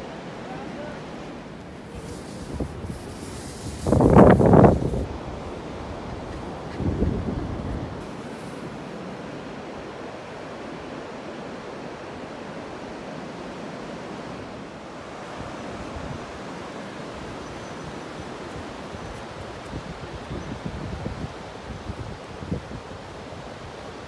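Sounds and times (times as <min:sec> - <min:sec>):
ocean surf rushing: 0:00.0 - 0:24.0
wind: 0:00.0 - 0:24.0.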